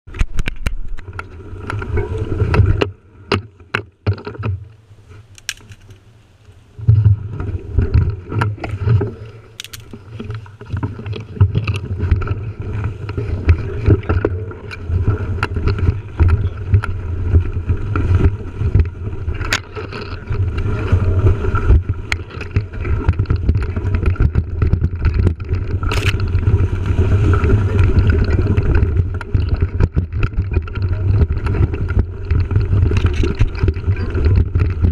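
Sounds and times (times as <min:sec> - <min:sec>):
wind and tyre rumble: 0:00.0 - 0:34.9
bike rattling over bumps: 0:06.8 - 0:34.9.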